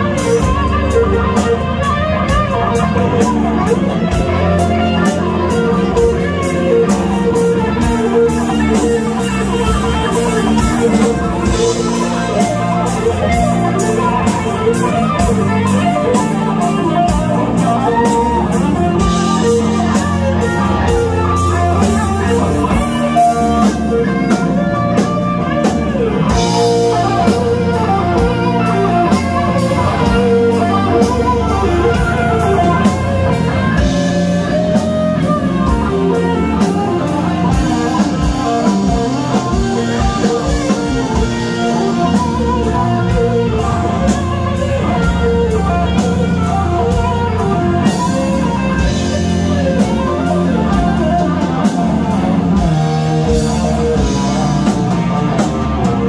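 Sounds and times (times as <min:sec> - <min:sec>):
bass guitar: 0:00.0 - 0:56.0
drum kit steady beat: 0:00.0 - 0:56.0
electric guitar: 0:00.0 - 0:56.0.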